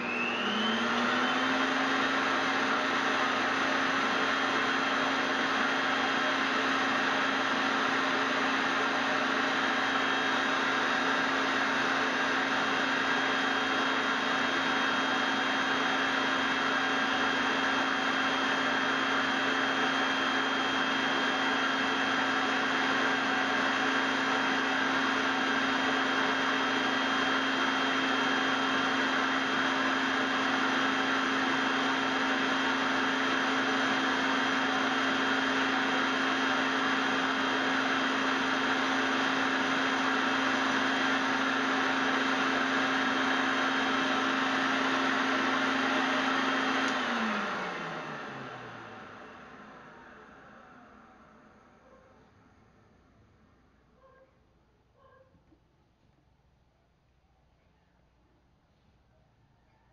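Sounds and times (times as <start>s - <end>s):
vacuum cleaner running: 0.0s - 54.2s.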